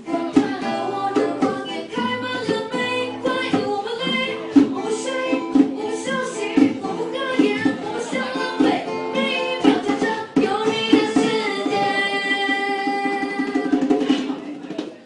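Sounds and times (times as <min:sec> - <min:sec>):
voices singing together: 0:00.0 - 0:14.0.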